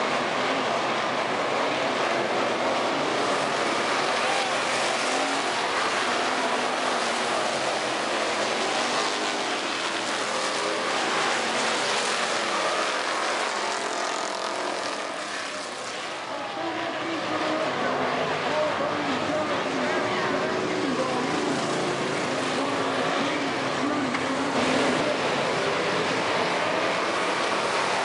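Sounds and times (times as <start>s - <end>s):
race car engines passing: 0.0s - 28.0s.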